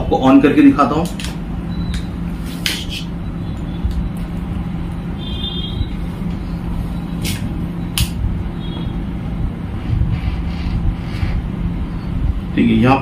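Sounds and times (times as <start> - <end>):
low background hum and rumble: 0.0 - 13.0.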